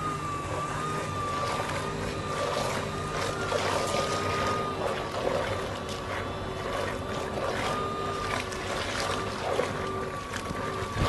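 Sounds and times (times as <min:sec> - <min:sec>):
electric motor whine: 0:00.0 - 0:11.0
water sloshing and splashing: 0:00.0 - 0:11.0.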